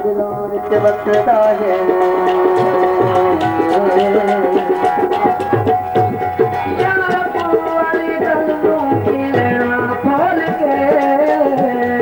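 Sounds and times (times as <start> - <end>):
hand drum rhythm: 0.0 - 12.0.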